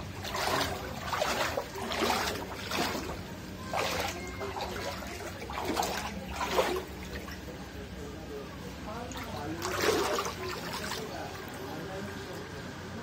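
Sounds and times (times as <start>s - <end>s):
water sloshing and splashing: 0.0s - 8.0s, 8.7s - 11.8s.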